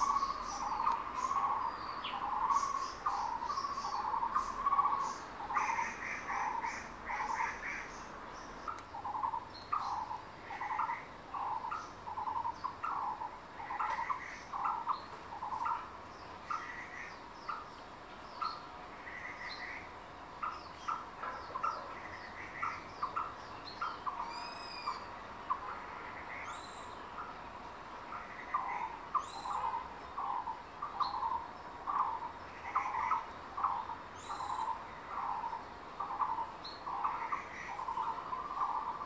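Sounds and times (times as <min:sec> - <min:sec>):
higher bird chirps: 0:00.0 - 0:27.4, 0:28.1 - 0:39.0.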